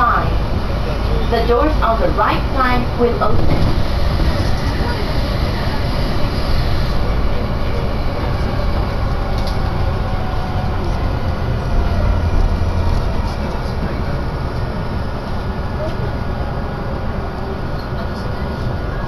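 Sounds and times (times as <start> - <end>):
train rumble from inside car: 0.0 - 19.0.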